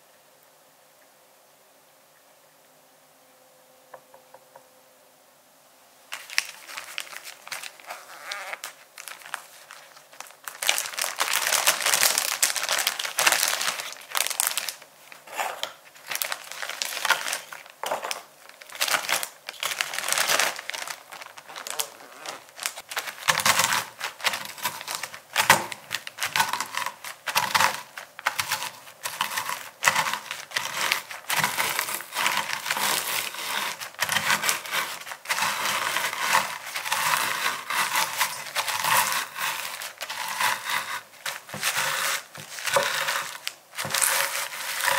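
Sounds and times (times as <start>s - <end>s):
cookies dropping into bag: 6.1s - 44.9s
plastic bag crinkling: 6.1s - 44.9s
rolling pin crushing cookies: 6.2s - 44.9s.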